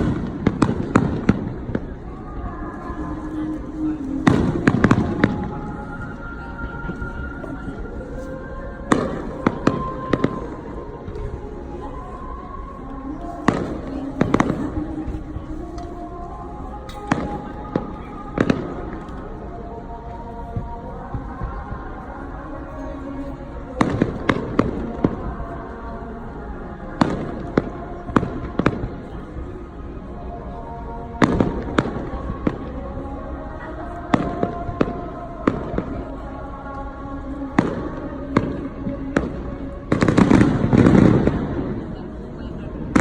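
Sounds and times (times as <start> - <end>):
music playing: 0.0 - 43.0.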